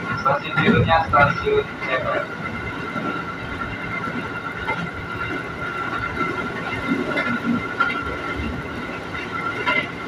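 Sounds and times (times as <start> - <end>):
train running rumble: 0.0 - 10.0.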